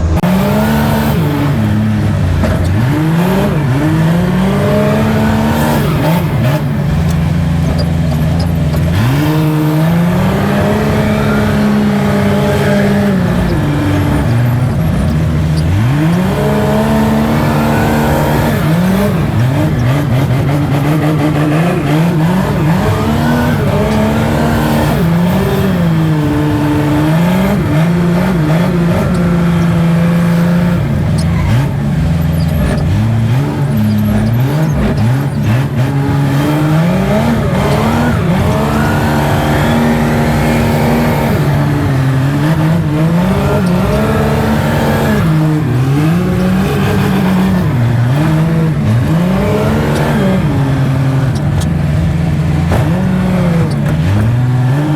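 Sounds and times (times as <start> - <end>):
wheel loader engine revving: 0.0 - 54.9.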